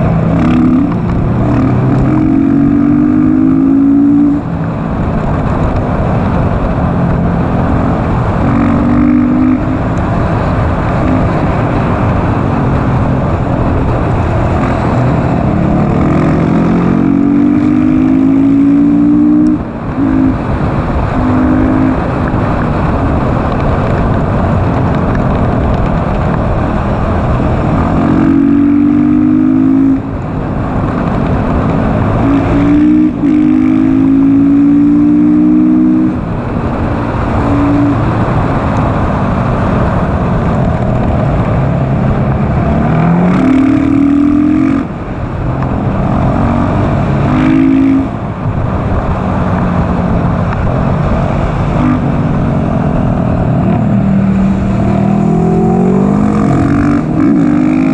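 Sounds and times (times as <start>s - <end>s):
motorcycle engine revving: 0.0s - 57.9s
wind noise: 0.0s - 57.9s.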